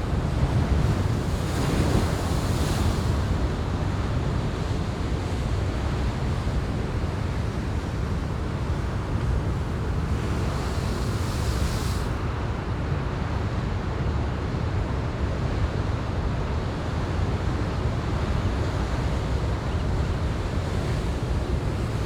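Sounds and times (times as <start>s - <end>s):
ocean surf: 0.0s - 22.0s.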